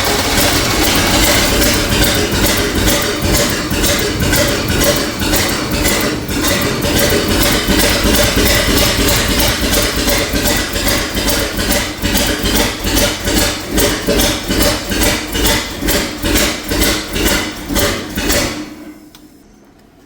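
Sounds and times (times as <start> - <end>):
truck engine running unevenly: 0.0 - 19.2
rapid engine clatter: 0.0 - 19.3.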